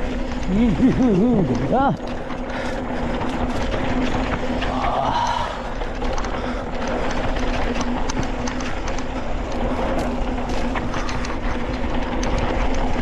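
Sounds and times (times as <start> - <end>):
bike rattling clicks and knocks: 0.0 - 13.0
steady low hum: 0.0 - 13.0
tyres rolling on dirt: 0.0 - 13.0
wind rushing over microphone: 0.0 - 13.0.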